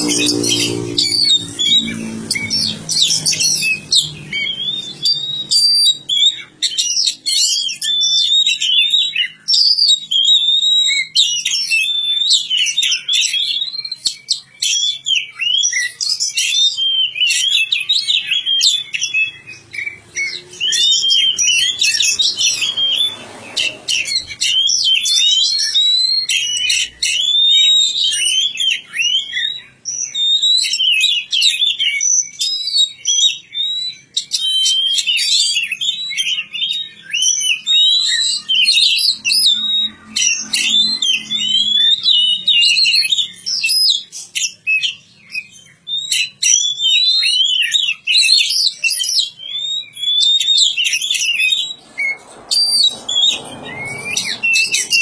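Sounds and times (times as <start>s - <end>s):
bird singing varied song: 0.0s - 55.0s.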